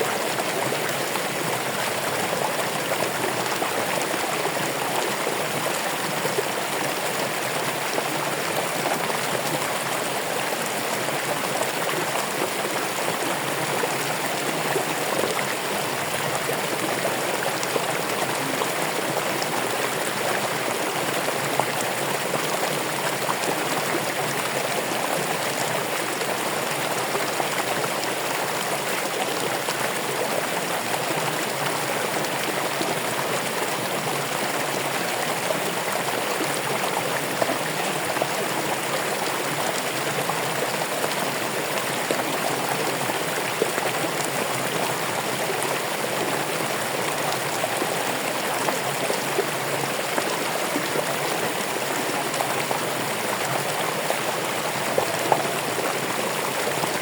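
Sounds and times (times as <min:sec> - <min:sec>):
water flowing steadily: 0:00.0 - 0:57.0.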